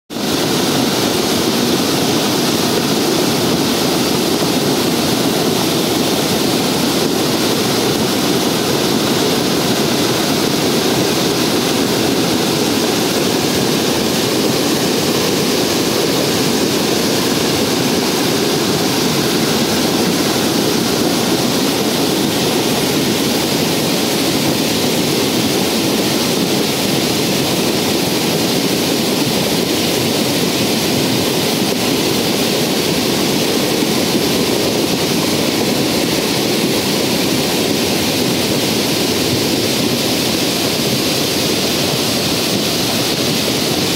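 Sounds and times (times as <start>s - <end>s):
river rapids roaring: 0.1s - 43.9s.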